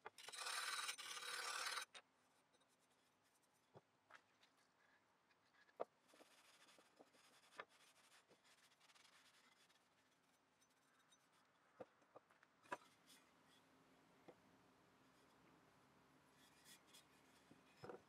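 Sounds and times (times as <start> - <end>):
soft rubbing of tool head: 0.0 - 14.4, 16.3 - 18.0.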